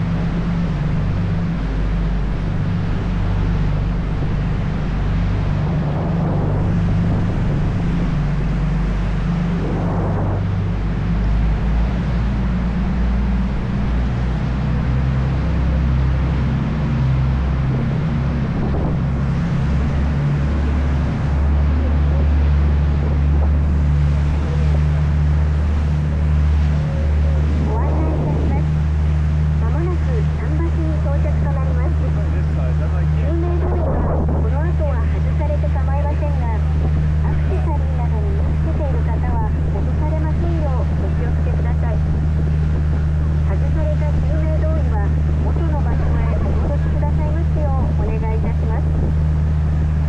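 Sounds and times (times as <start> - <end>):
boat engine droning: 0.0 - 50.0
water rushing: 0.0 - 50.0
wind: 0.0 - 50.0.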